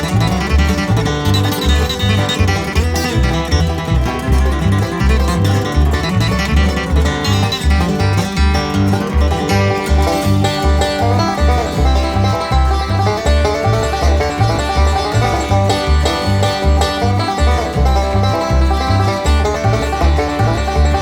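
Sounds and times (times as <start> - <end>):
acoustic guitar picking fast lines: 0.0 - 21.0
banjo: 0.0 - 21.0
plucked bass: 0.0 - 21.0.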